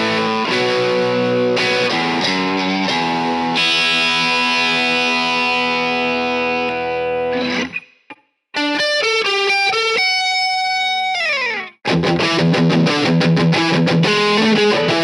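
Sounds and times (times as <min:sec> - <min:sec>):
overdriven electric guitar: 0:00.0 - 0:15.0.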